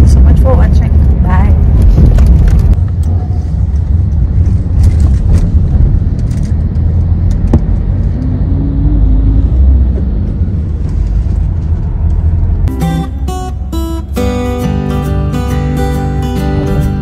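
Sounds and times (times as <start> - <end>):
car driving rumble: 0.0 - 14.8.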